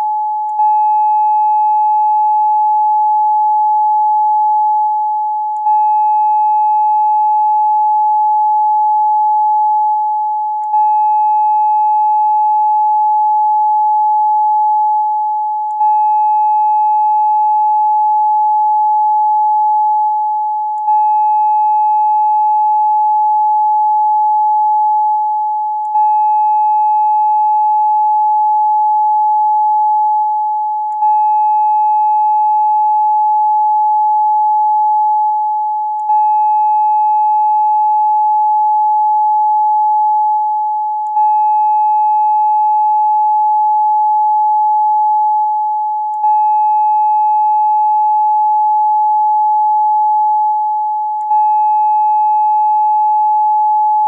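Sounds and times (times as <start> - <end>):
pure meditation tone: 0.0 - 54.0.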